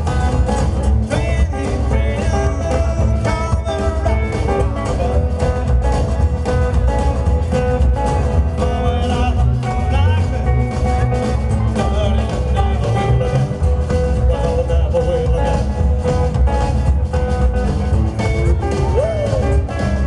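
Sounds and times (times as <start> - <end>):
acoustic guitar: 0.0 - 20.0
drums: 0.0 - 20.0
electric guitar: 0.0 - 20.0
upright double bass: 0.0 - 20.0.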